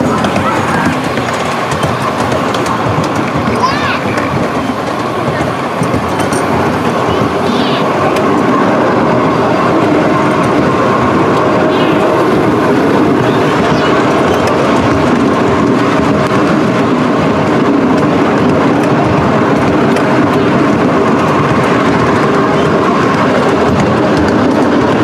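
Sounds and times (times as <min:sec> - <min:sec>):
miniature train wheels rumbling on rails: 0:00.0 - 0:25.0.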